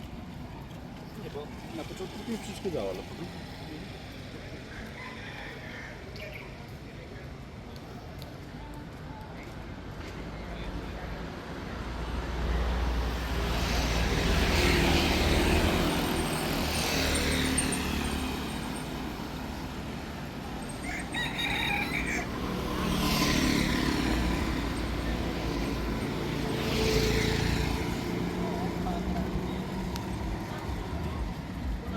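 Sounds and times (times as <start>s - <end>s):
vehicles passing: 0.0s - 31.9s.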